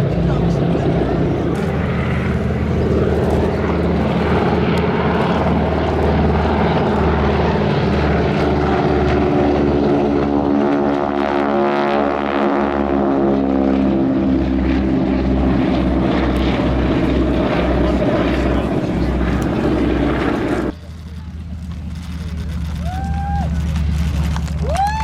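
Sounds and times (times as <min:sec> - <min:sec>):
biplane engines droning: 0:00.0 - 0:25.0.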